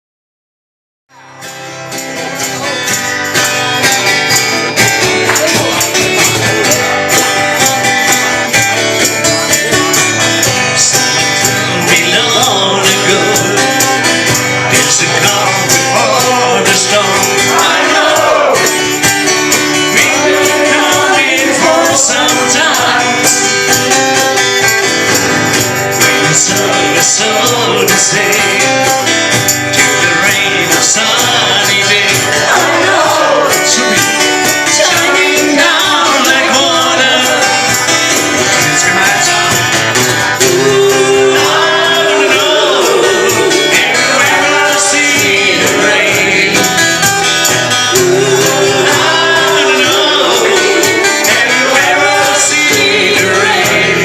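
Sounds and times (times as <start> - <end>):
strummed acoustic guitars: 1.1 - 54.0
tambourine: 1.1 - 54.0.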